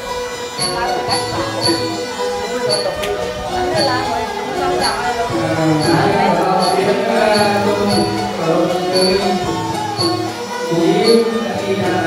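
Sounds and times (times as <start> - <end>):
small cymbals ticking a beat: 0.0 - 12.0
wavering instrumental melody: 0.0 - 12.0.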